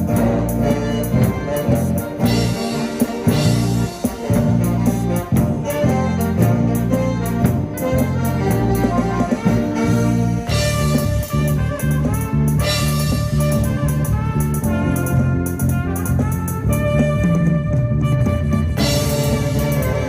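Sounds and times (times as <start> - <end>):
bass and drum beat: 0.0 - 20.0
brass and saxophone ensemble: 0.0 - 20.0.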